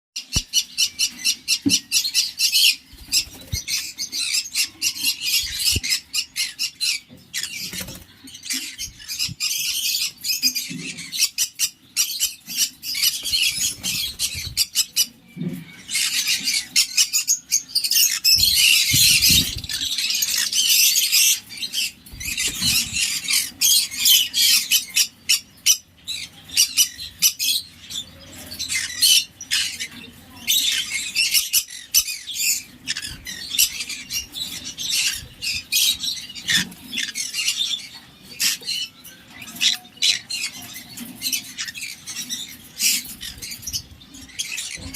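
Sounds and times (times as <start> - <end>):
conures squawking and chattering: 0.2 - 44.9.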